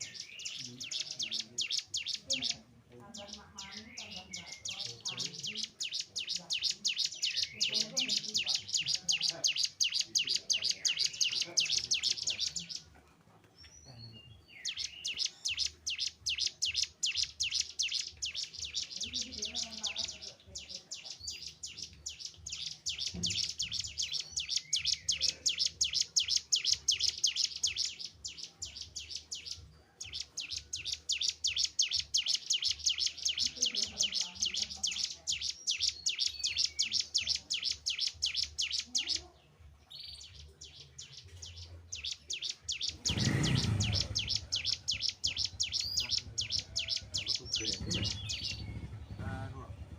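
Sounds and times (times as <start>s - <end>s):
bird singing rapid high notes: 0.0s - 12.8s, 14.2s - 39.2s, 40.0s - 49.9s.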